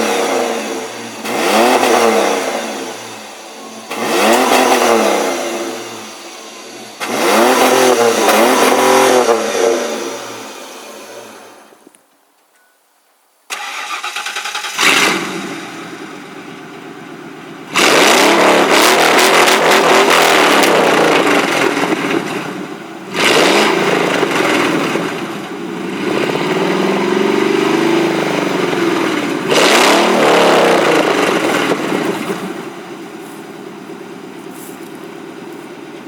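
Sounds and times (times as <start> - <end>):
car engine idling and revving: 0.0 - 11.8, 13.6 - 36.0.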